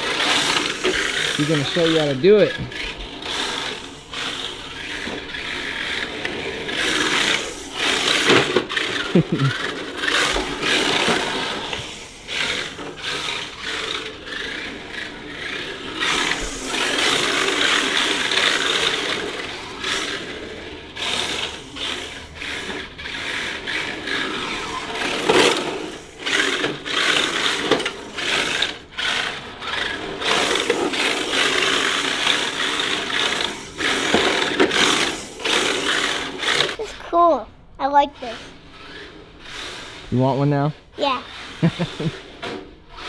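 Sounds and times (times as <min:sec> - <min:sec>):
rc car motor whirring: 0:00.0 - 0:43.0.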